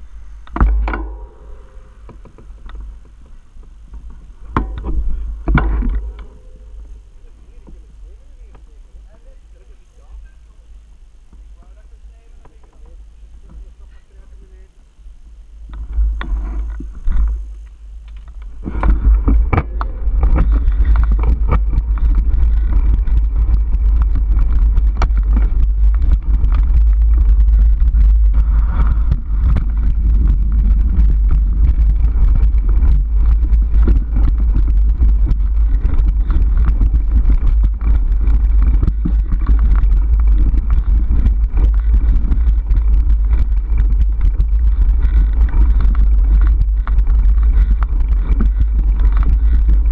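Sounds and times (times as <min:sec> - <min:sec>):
wind rumble on microphone: 0:00.0 - 0:49.9
bike knocks and rattles: 0:00.5 - 0:08.7, 0:15.7 - 0:49.9.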